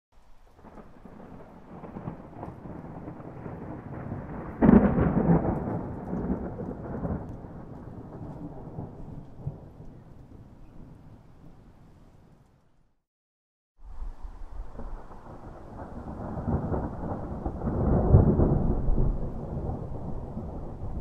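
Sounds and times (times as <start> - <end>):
thunder rumbling and cracking: 0.6 - 11.5, 14.4 - 21.0.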